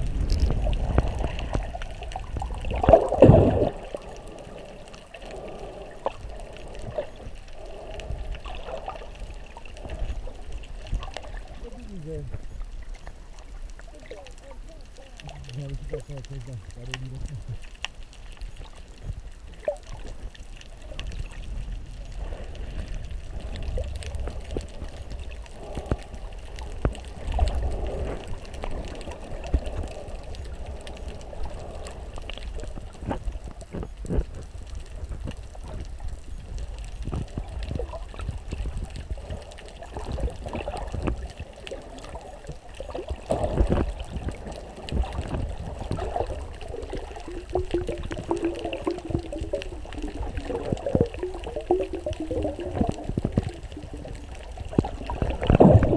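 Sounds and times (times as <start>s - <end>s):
muffled underwater water wash: 0.0s - 55.9s
underwater clicks: 0.0s - 55.9s.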